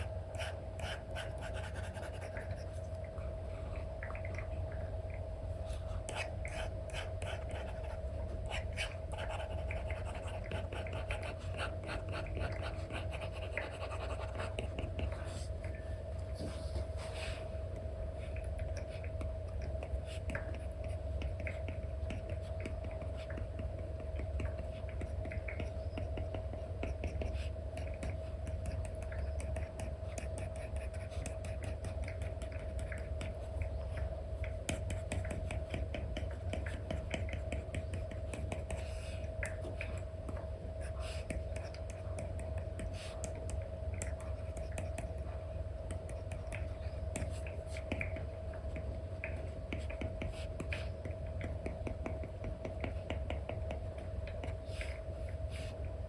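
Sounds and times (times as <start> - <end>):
stylus scratching on screen: 0.0 - 3.0, 5.6 - 17.5, 18.2 - 45.3, 45.9 - 55.9
steady low hum: 0.0 - 56.0.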